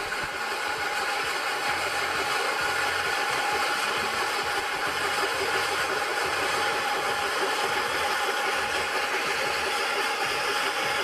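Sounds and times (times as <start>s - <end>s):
stone cutting saw droning: 0.0s - 11.0s.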